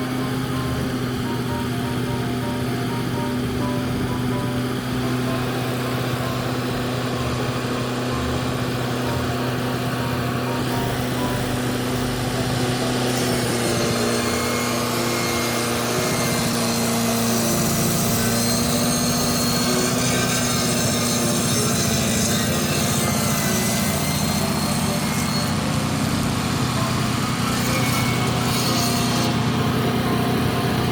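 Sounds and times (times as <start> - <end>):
circular sawmill running: 0.0 - 30.9.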